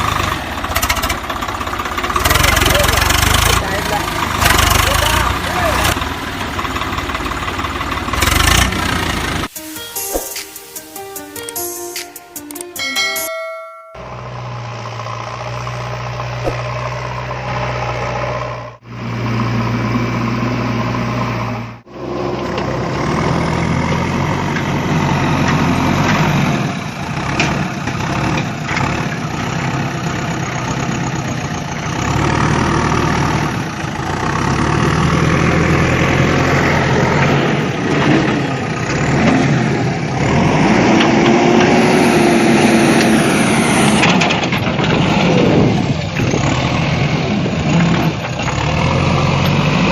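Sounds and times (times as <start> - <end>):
engine idling and revving: 0.0 - 9.6, 14.0 - 49.9.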